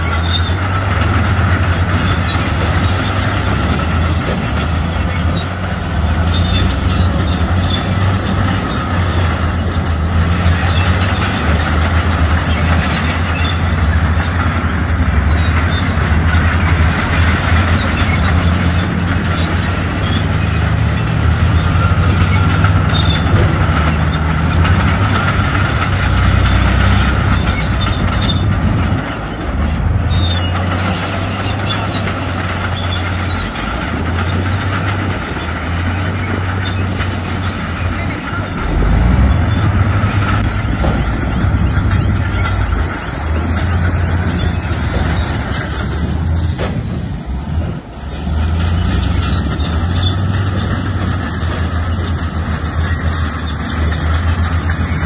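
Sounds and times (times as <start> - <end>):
bulldozer diesel engine running: 0.0 - 55.0
metallic track noise: 0.0 - 55.0.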